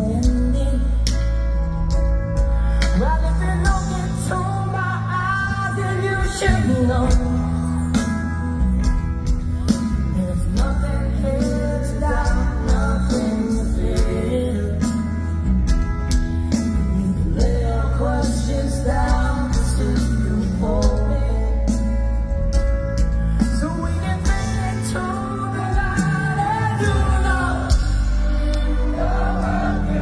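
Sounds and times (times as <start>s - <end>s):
man singing lead vocal: 0.0s - 1.7s, 2.4s - 30.0s
bass guitar: 0.0s - 30.0s
electric guitar: 0.0s - 30.0s.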